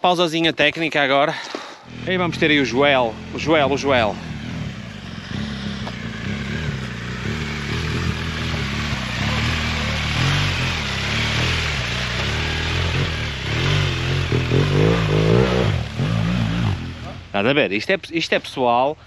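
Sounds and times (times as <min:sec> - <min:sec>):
motorcycle engine revving: 0:01.8 - 0:17.6.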